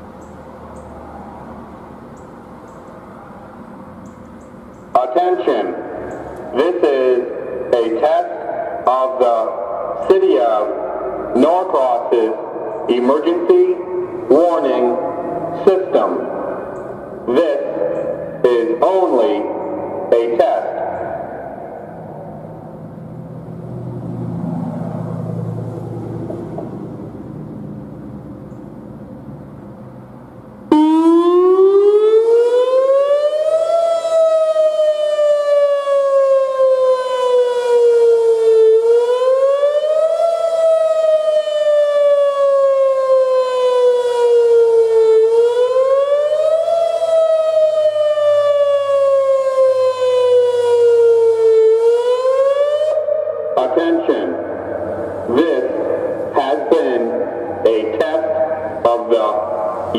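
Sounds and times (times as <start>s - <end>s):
warning siren wailing: 0.0s - 29.0s, 30.6s - 59.9s.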